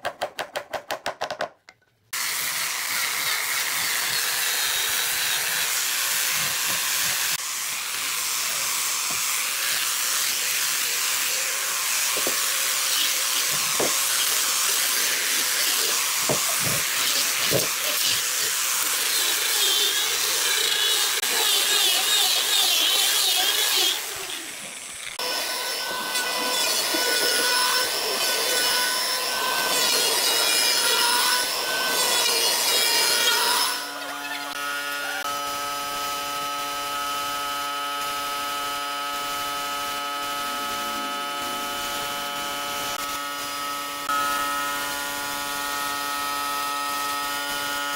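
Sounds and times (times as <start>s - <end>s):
electric sander hissing on wood: 2.2s - 47.9s
power tool motor whine: 2.2s - 47.9s.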